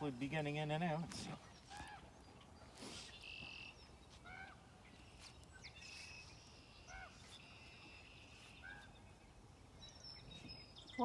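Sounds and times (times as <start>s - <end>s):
faint bird calls: 1.3s - 11.0s.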